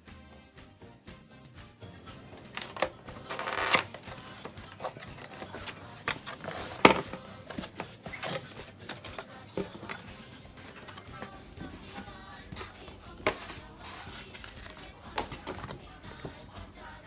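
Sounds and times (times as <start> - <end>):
scraping rustle: 2.0 - 16.9
cardboard box clicks and knocks: 2.1 - 16.8.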